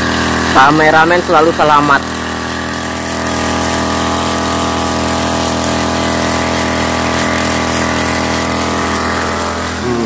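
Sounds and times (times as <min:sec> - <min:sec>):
small petrol engine running: 0:00.0 - 0:10.0.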